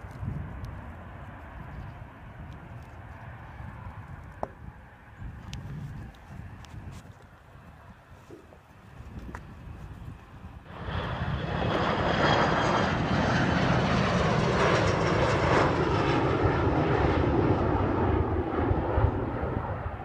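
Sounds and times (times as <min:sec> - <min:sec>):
jet engines at climb power: 0:00.0 - 0:20.0.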